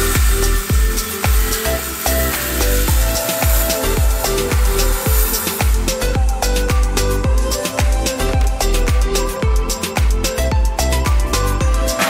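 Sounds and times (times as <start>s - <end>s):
kick drum: 0.2s - 1.4s, 2.9s - 11.9s.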